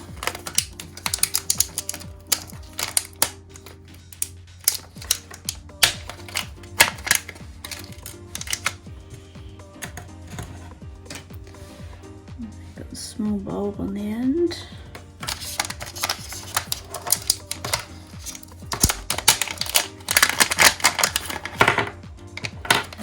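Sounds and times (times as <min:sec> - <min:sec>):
plastic parts clicking and rattling: 0:00.0 - 0:11.5, 0:15.2 - 0:23.0
quiet background music: 0:00.0 - 0:23.0.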